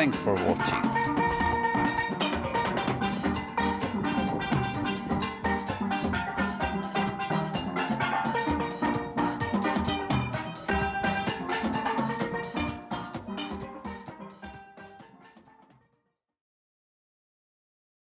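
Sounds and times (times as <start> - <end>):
steel pan notes: 0.0 - 15.6
drum kit: 0.0 - 15.7.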